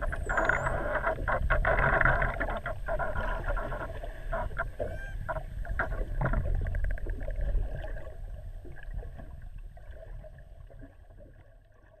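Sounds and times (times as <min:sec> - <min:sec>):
low rumble of moving water: 0:00.0 - 0:12.0.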